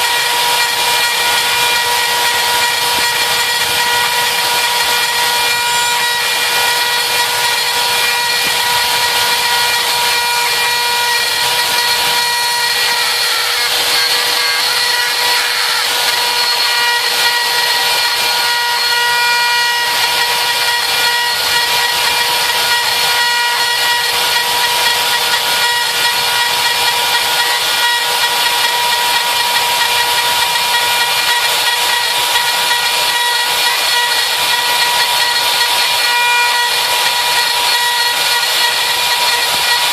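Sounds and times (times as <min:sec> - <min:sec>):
saw bit rasping material: 0:00.0 - 0:39.9
spiral saw motor whine: 0:00.0 - 0:39.9.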